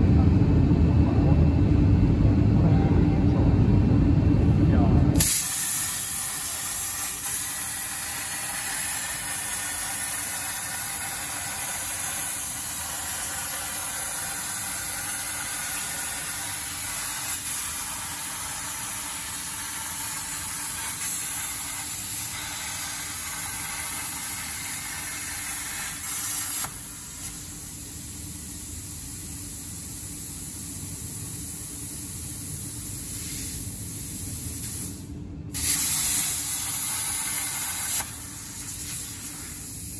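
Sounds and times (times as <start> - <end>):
plasma torch hissing: 5.2 - 39.9.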